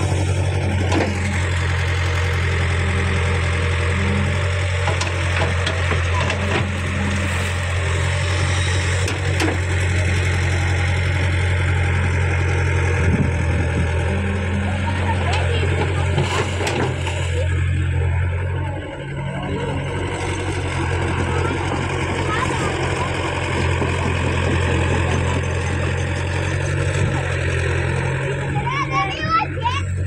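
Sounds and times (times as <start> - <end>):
excavator diesel engine humming: 0.0 - 30.0.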